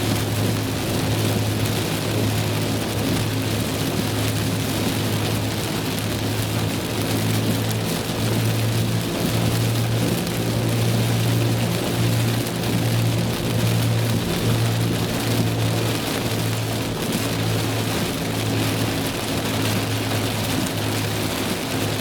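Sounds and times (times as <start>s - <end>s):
low drone of car on road: 0.0s - 22.0s
rain hitting a car: 0.0s - 22.0s.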